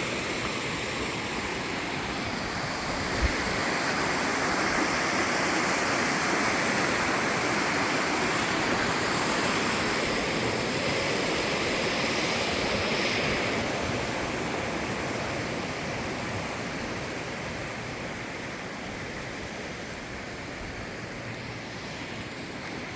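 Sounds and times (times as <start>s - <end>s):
stream water rushing: 0.0s - 22.9s.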